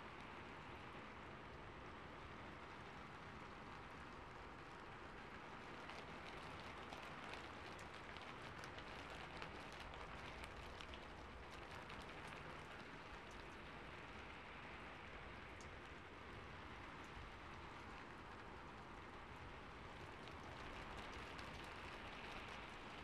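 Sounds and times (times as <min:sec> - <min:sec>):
rain on a rooftop: 0:00.0 - 0:23.0.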